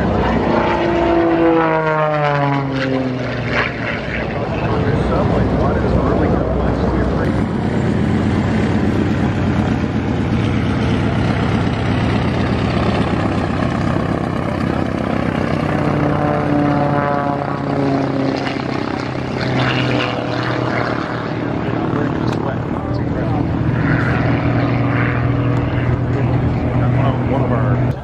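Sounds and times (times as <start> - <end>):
propeller plane passing: 0.0 - 28.0.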